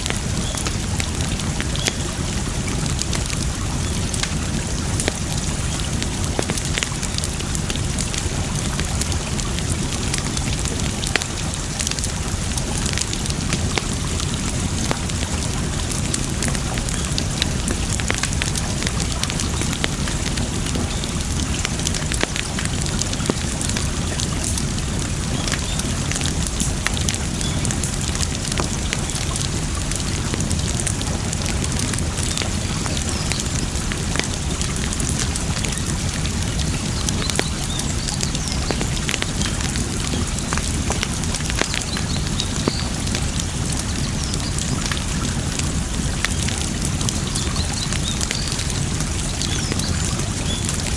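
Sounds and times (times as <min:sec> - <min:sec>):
campfire crackling and popping: 0:00.0 - 0:50.9
flowing water: 0:00.0 - 0:50.9.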